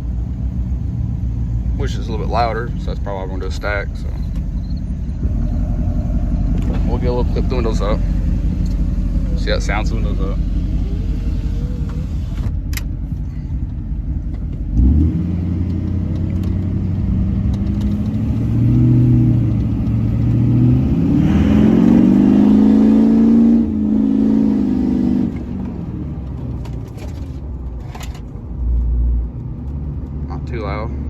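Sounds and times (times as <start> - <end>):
diesel exhaust drone: 0.0 - 29.4.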